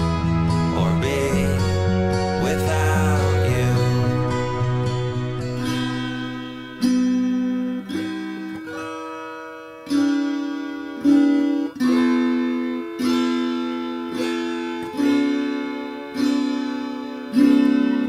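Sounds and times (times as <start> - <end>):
plucked guitar notes and chords: 0.0 - 18.0.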